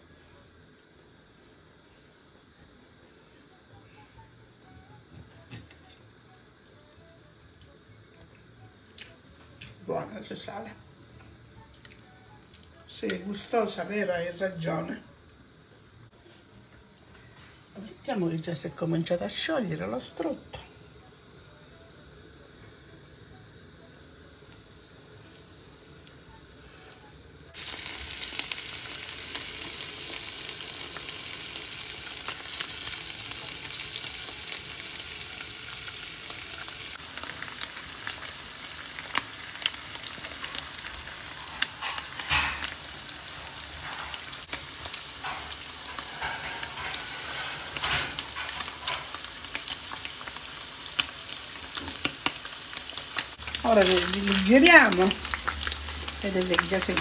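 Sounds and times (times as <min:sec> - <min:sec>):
frying sizzle with pops: 0:00.0 - 0:57.0.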